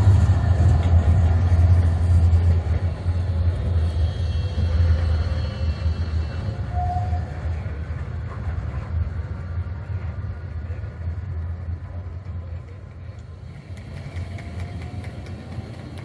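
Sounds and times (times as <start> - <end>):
street background: 0.0 - 16.0
tram rumbling on track: 0.0 - 16.0.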